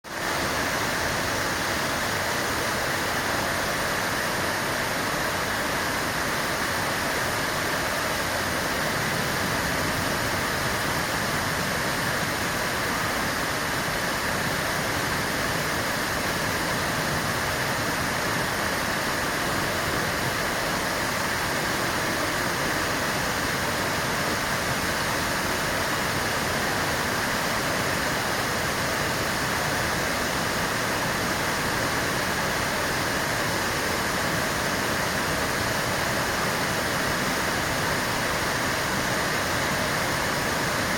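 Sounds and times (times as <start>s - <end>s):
fountain water splashing: 0.1s - 40.9s.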